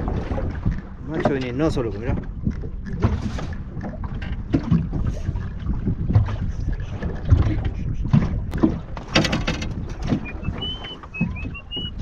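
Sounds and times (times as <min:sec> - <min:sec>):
low knocks of boat hull: 0:00.0 - 0:06.4, 0:07.0 - 0:12.0
wind rumbling on microphone: 0:00.0 - 0:12.0.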